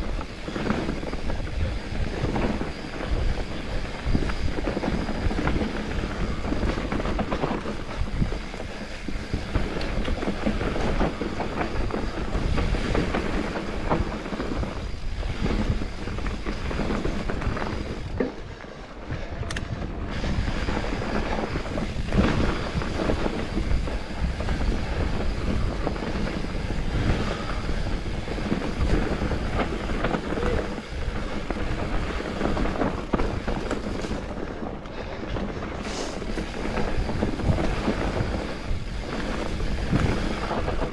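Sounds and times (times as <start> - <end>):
tyres rumbling over dirt: 0.0 - 40.9
wind on microphone: 0.0 - 40.9.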